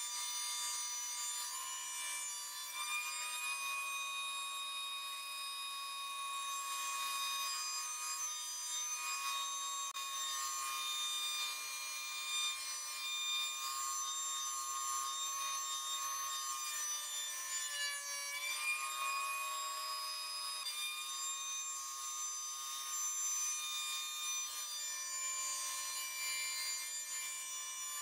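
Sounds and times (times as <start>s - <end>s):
electric planer whining: 0.0s - 28.0s.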